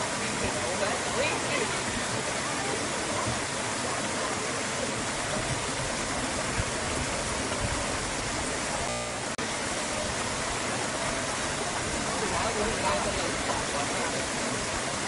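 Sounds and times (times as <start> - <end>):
stream rushing between boulders: 0.0 - 15.0.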